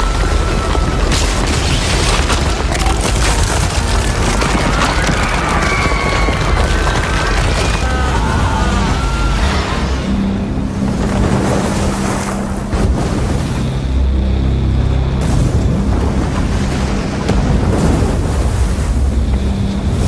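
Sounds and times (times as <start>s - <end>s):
low rumble with crackling: 0.0s - 20.0s.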